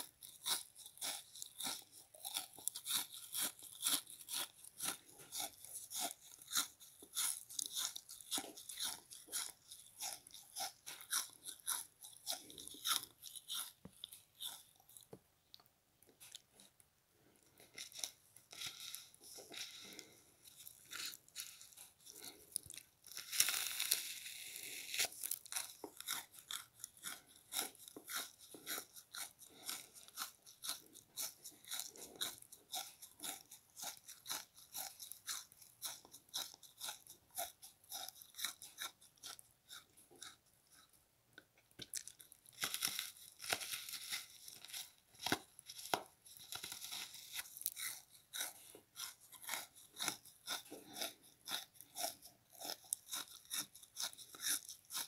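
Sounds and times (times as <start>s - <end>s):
frozen sponge being chewed: 0.0s - 55.0s.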